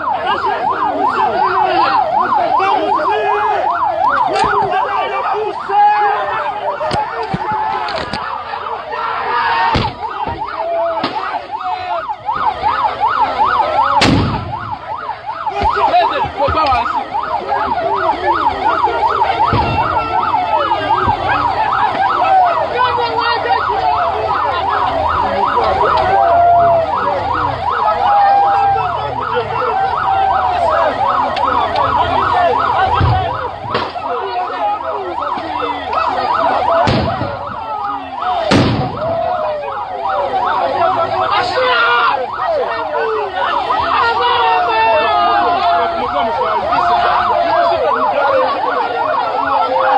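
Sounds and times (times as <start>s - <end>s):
siren yelping: 0.0s - 49.9s.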